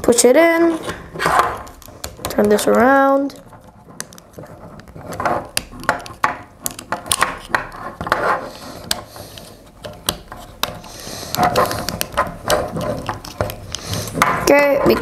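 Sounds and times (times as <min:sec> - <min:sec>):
plastic parts rubbing: 0:00.0 - 0:15.0.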